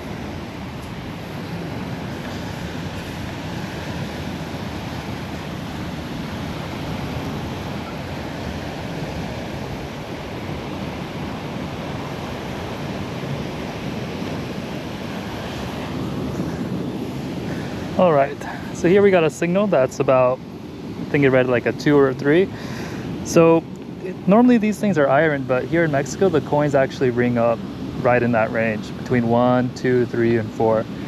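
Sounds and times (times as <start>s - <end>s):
wind on microphone: 0.0s - 30.0s
surf washing on shore: 0.0s - 31.0s.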